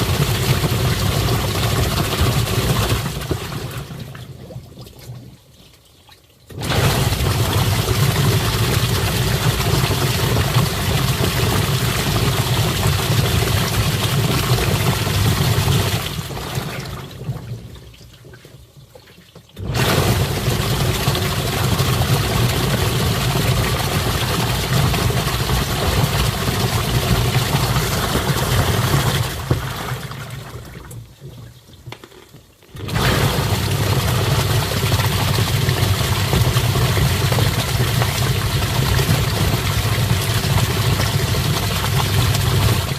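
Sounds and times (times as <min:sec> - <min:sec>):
washing machine motor hum: 0:00.0 - 0:04.4, 0:06.5 - 0:18.0, 0:19.6 - 0:31.2, 0:32.7 - 0:42.9
churning water: 0:00.0 - 0:42.9.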